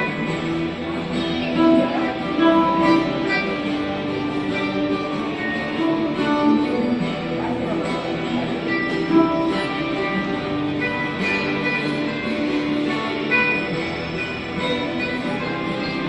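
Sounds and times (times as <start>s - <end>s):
amplified ukulele melody: 0.0s - 16.0s.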